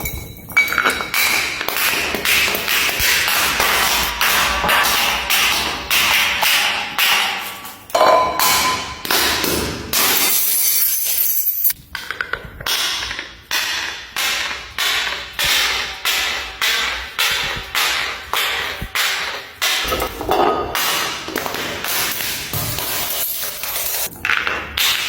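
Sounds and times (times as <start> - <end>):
glass bottles tumbling down stairs: 0.0 - 6.2, 7.0 - 12.9, 13.6 - 25.0.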